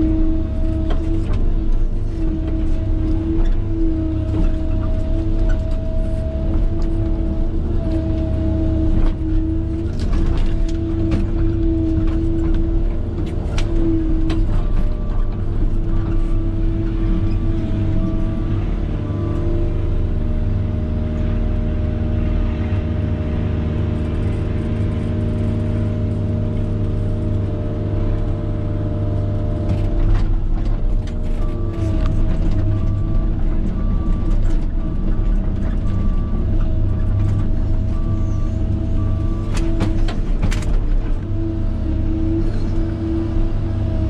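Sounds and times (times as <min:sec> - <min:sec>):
diesel engine running under load: 0:00.0 - 0:44.0.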